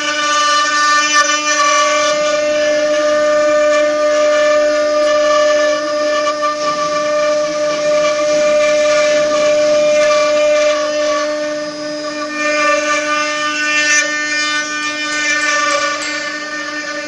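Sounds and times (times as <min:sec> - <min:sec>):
router spindles whining: 0:00.0 - 0:17.0.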